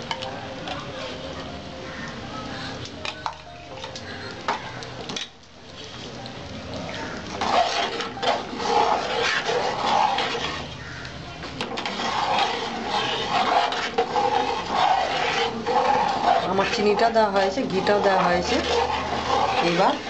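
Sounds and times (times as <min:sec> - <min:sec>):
wet sloppy stirring: 0:01.8 - 0:20.0.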